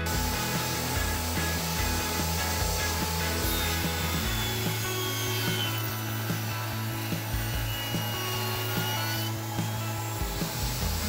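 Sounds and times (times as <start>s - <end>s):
table saw cutting: 0.0s - 11.0s.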